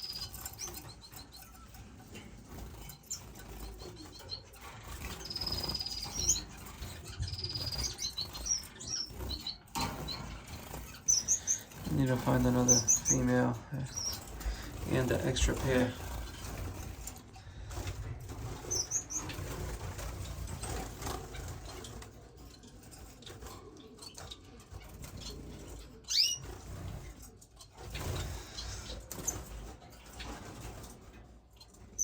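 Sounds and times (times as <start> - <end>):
finches chirping: 0.0 - 30.7
wings fluttering: 0.0 - 32.0.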